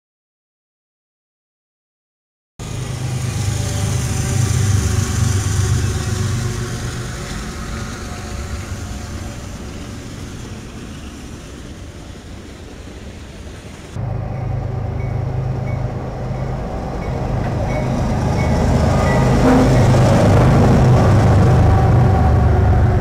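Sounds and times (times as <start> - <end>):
diesel locomotive engine rumble: 2.6 - 23.0
freight cars rolling past: 2.6 - 23.0.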